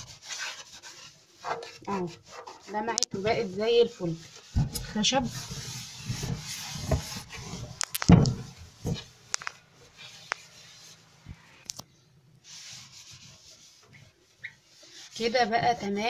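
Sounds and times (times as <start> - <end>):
cloth wiping wooden shelf: 0.0 - 7.8, 8.4 - 11.3, 12.4 - 16.0.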